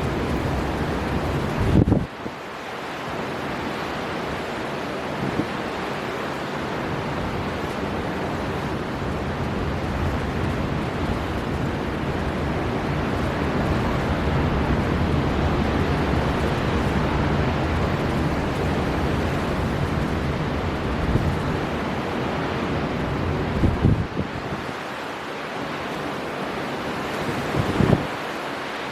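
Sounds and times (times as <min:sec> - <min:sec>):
storm wind blowing: 0:00.0 - 0:28.9
surf rushing: 0:00.0 - 0:28.9.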